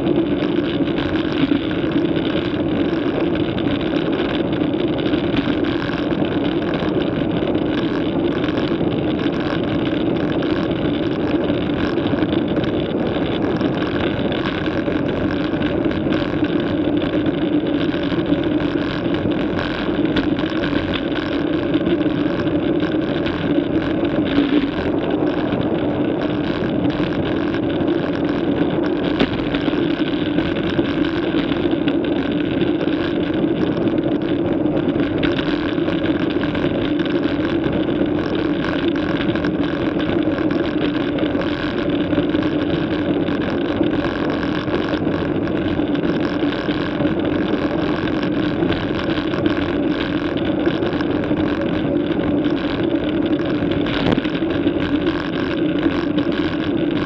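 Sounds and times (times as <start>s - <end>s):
bicycle tyre noise: 0.0s - 57.0s.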